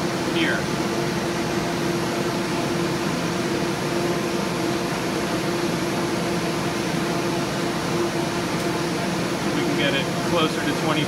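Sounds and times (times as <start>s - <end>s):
motor and fan whirring: 0.0s - 11.0s.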